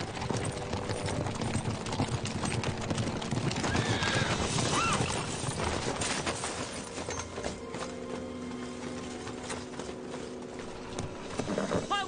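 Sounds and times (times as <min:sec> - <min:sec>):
horses galloping on sand: 0:00.0 - 0:12.0.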